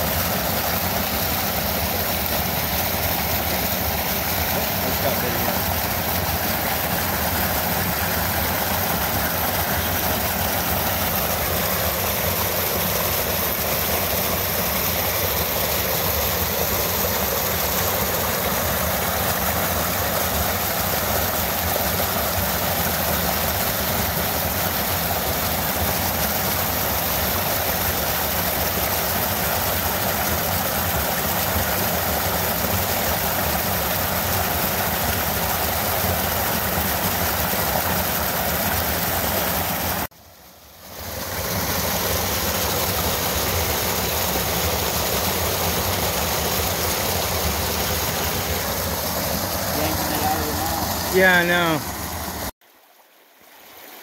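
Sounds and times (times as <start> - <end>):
small waterfall pouring: 0.0 - 54.0.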